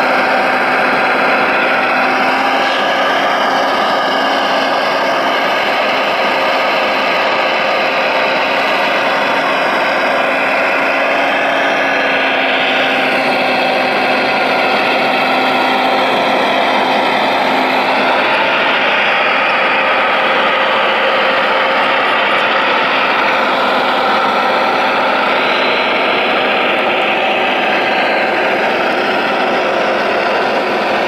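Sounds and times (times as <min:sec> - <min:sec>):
hydraulic pump whine: 0:00.0 - 0:31.0.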